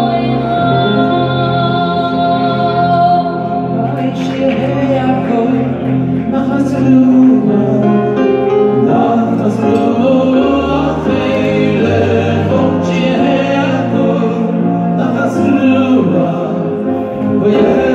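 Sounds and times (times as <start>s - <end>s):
bass: 0.0s - 17.9s
electronic keyboard chords: 0.0s - 17.9s
lead voice singing: 0.0s - 17.9s
male choir singing: 0.0s - 17.9s.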